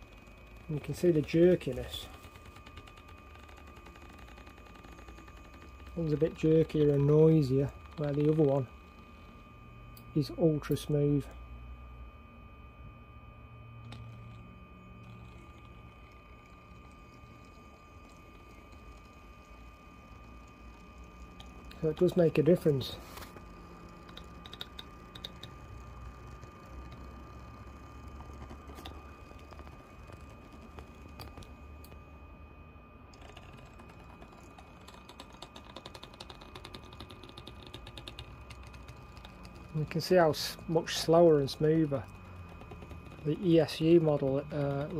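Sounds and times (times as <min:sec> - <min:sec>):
faint steady high tone: 0:00.0 - 0:44.9
model locomotive motor whine: 0:00.0 - 0:44.9.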